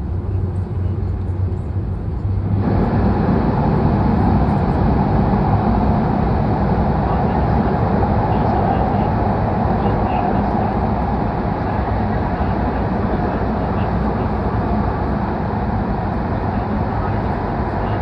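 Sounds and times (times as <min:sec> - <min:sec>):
train cabin running noise: 0:00.0 - 0:18.0.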